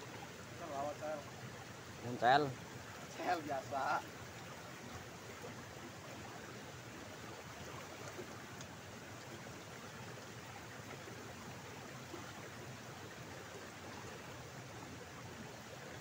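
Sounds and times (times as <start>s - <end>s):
water running in channel: 0.0s - 16.0s.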